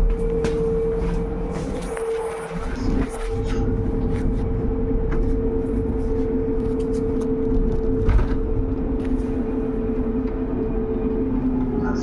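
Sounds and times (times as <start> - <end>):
bus ride rumble: 0.0 - 12.0.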